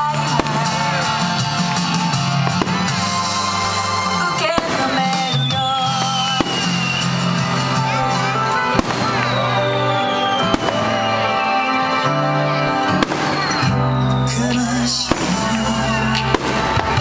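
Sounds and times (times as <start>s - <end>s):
fireworks bursting: 0.0s - 17.0s
loud music with held notes: 0.0s - 17.0s.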